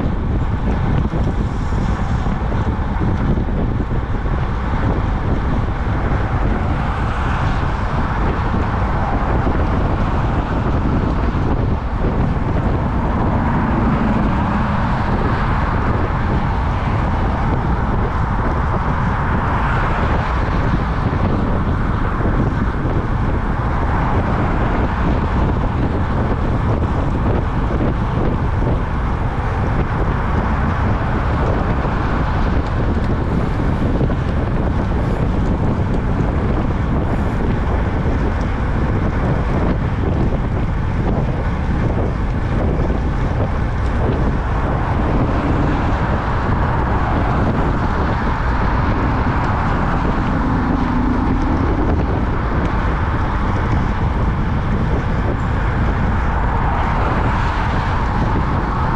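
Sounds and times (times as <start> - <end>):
road noise: 0.0 - 58.9
wind rushing over microphone: 0.0 - 58.9.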